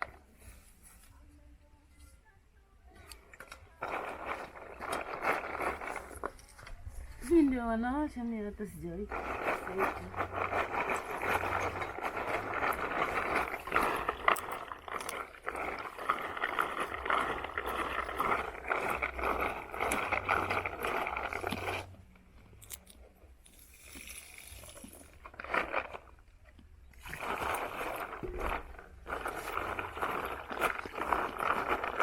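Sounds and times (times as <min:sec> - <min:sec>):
nut shells rattling and scraping: 0:03.4 - 0:07.2, 0:09.1 - 0:26.3, 0:27.0 - 0:32.0.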